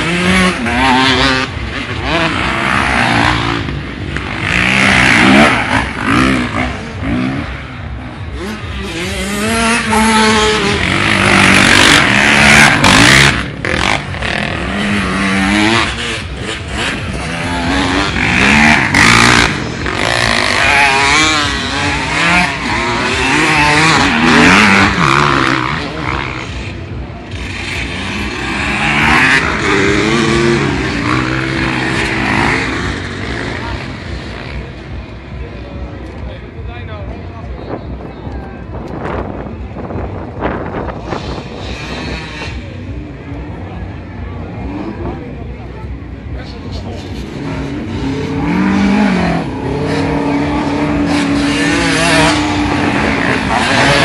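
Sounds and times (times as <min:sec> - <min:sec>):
motocross bikes revving past: 0:00.0 - 0:36.6, 0:37.3 - 0:54.0.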